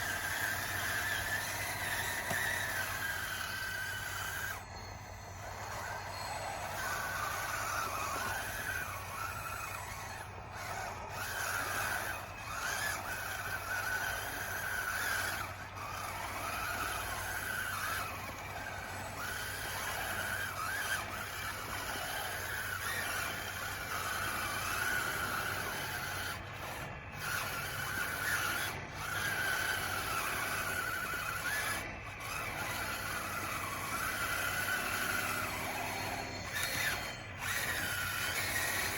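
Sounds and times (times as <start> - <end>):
electric motor whining: 0.0 - 38.9.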